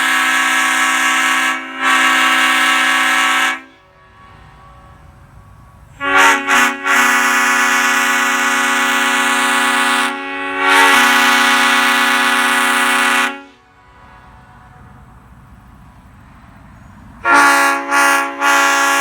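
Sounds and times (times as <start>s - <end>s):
train horn chord: 0.0s - 15.2s, 17.2s - 19.0s.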